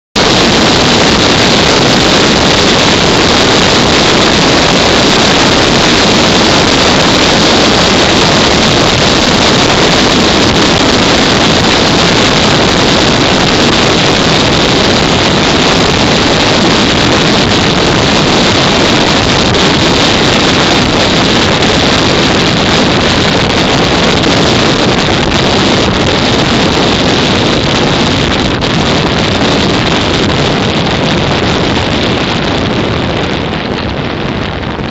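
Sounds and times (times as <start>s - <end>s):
wind rushing on microphone: 0.0s - 34.9s.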